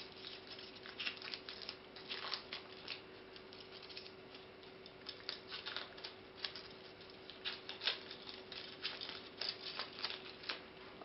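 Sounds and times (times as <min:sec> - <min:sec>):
plastic ribbon crinkling: 0:00.0 - 0:10.7.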